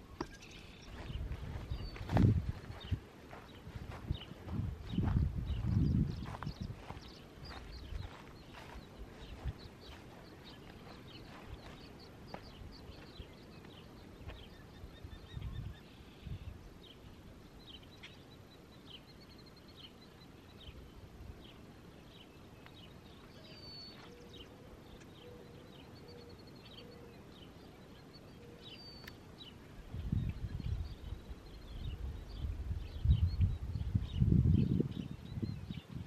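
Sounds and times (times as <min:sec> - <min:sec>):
birds chirping: 0:00.0 - 0:36.0
faint background noise: 0:00.0 - 0:36.0.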